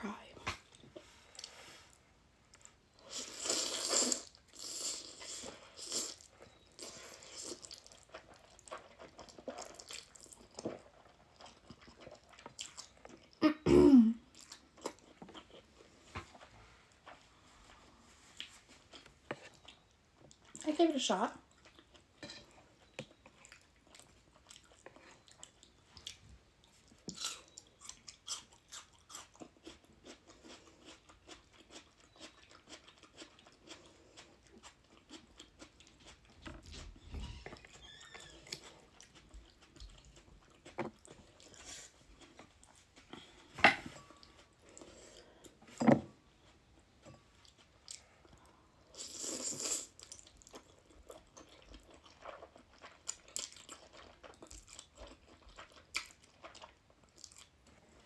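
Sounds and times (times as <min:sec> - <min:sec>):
chewing noodles: 0:01.0 - 0:13.4, 0:14.3 - 0:20.6, 0:21.5 - 0:43.4, 0:46.4 - 0:58.0.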